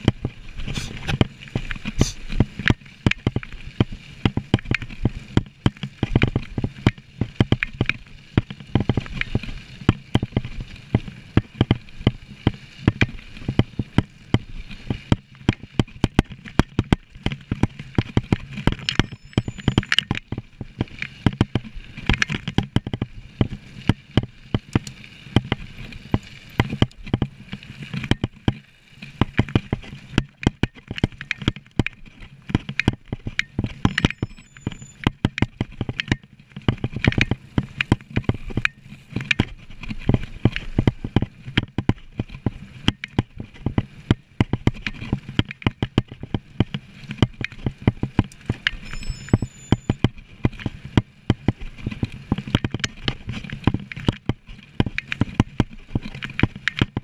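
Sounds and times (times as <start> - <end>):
mountain bike rattling on trail: 0.0 - 57.0.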